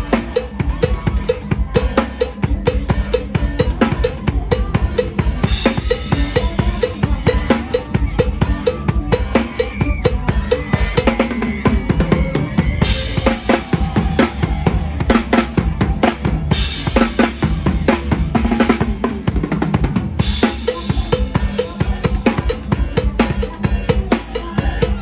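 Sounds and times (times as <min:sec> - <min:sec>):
bass line: 0:00.0 - 0:25.0
fast drum kit playing: 0:00.0 - 0:25.0.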